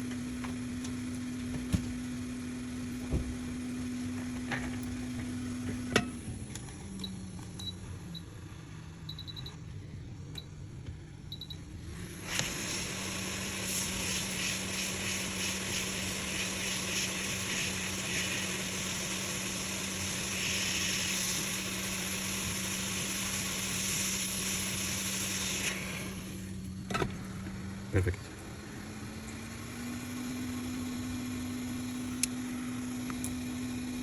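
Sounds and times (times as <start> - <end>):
hot-air blower hissing: 0.0 - 6.4, 11.8 - 34.0.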